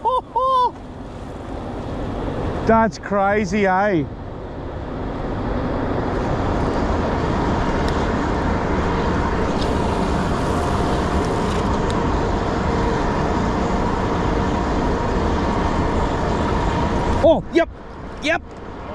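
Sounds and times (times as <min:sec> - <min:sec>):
boat motor running: 0:00.0 - 0:18.9.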